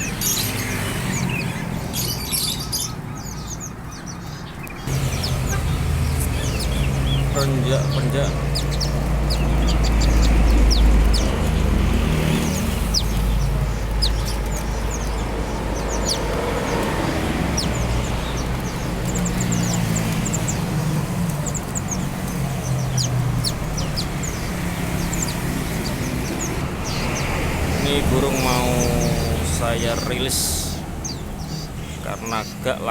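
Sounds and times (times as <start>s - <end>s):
low engine rumble: 0.0s - 32.9s
small birds chirping: 0.0s - 32.9s.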